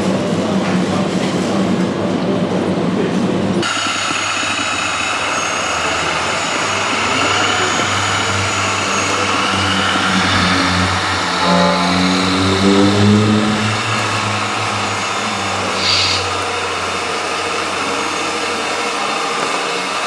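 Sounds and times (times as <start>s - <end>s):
toy truck motor humming: 3.6s - 20.0s.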